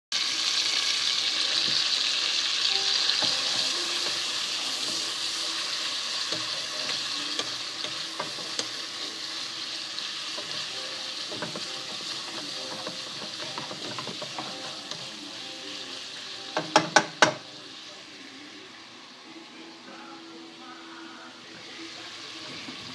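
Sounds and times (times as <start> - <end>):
bacon sizzling in a pan: 0.1 - 22.9.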